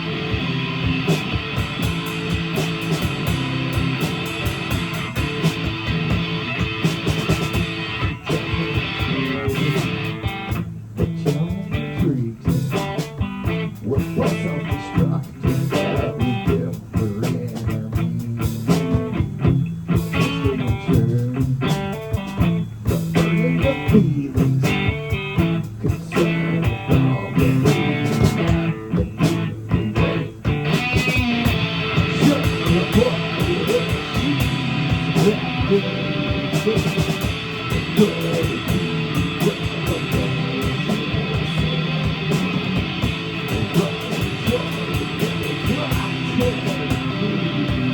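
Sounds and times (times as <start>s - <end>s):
electric guitar chords: 0.0s - 47.9s
live rock band playing: 0.0s - 47.9s.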